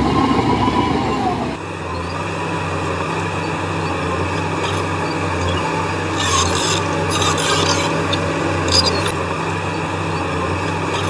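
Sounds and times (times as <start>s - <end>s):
heavy machinery diesel engine: 0.0s - 11.0s.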